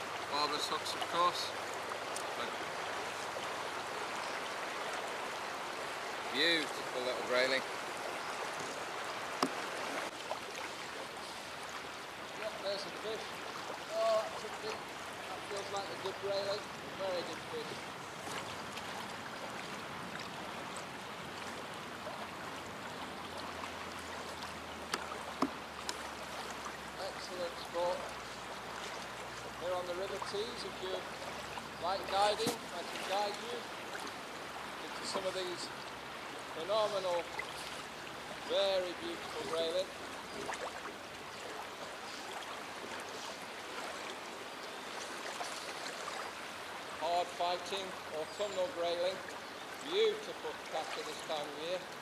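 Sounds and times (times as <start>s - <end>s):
river current flowing: 0.0s - 52.0s.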